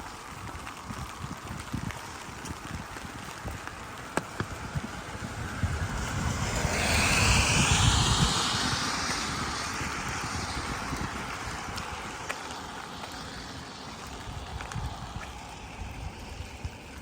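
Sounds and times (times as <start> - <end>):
car tyres hissing on wet road: 0.0 - 17.0.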